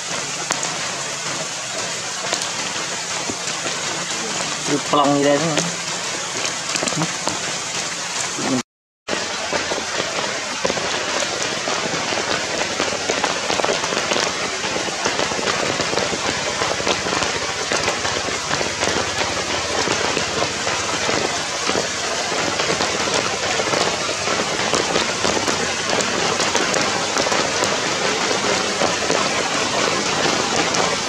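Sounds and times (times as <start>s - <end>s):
rain on wet ground and leaves: 0.0s - 31.0s.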